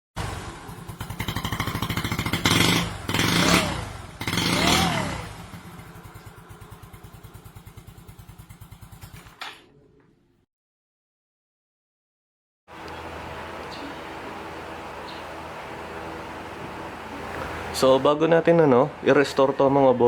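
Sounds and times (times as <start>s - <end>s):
scooter engine revving and idling: 0.2s - 9.4s, 12.7s - 20.0s.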